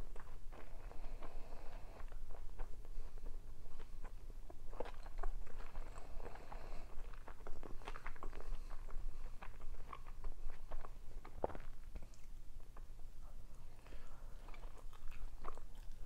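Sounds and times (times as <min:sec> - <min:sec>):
chewing soft food: 0:00.0 - 0:16.0.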